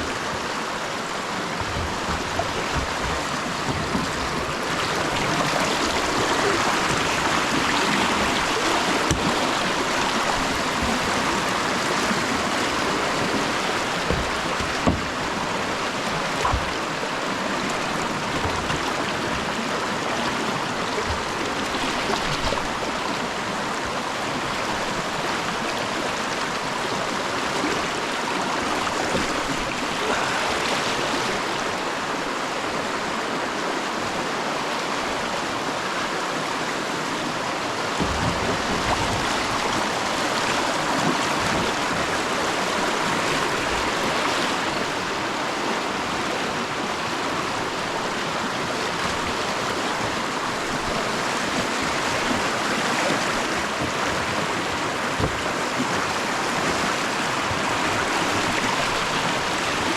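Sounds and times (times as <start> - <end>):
rushing whitewater: 0.0 - 59.9.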